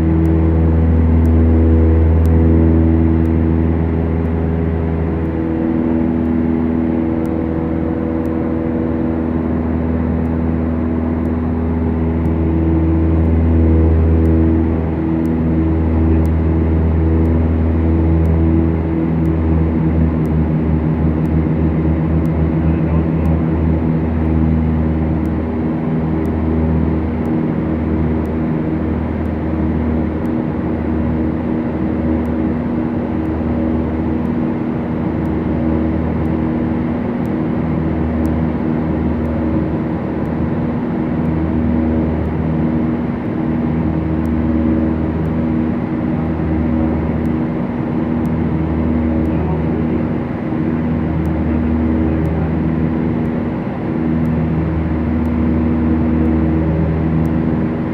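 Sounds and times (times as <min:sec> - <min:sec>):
propeller plane engines droning: 0:00.0 - 0:57.9.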